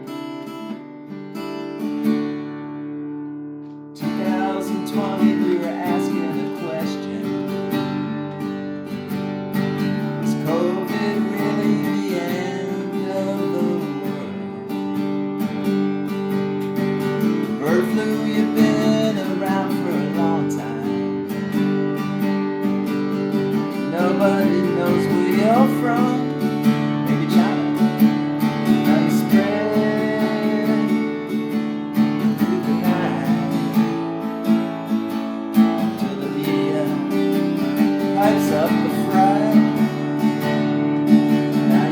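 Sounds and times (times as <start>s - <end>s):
acoustic guitar blues playing: 0.0s - 41.9s.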